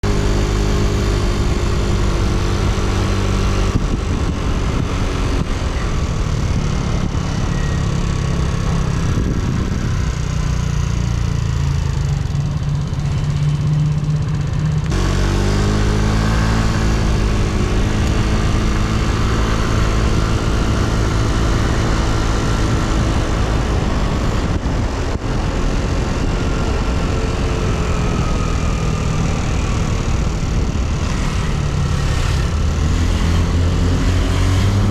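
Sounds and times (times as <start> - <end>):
road noise: 0.0 - 34.9
scooter engine running: 0.0 - 34.9
wind: 0.0 - 34.9.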